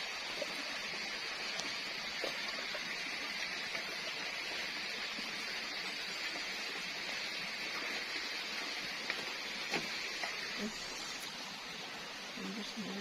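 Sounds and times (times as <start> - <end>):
shrill forest hiss: 0.0 - 13.0.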